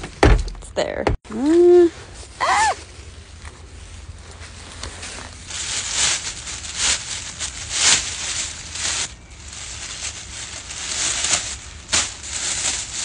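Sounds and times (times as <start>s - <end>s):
plastic bags crinkling: 2.5s - 13.0s.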